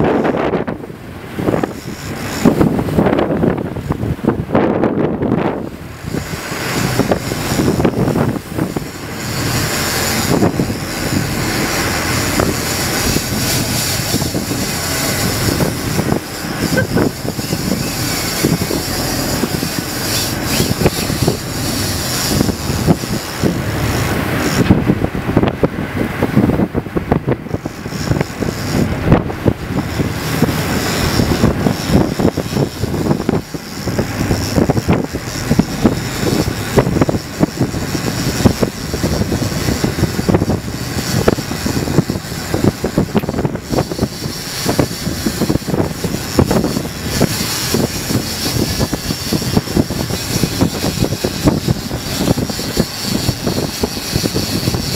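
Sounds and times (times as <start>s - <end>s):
boat engine drone: 0.0s - 54.9s
churning water: 0.0s - 54.9s
wind buffeting microphone: 0.0s - 54.9s.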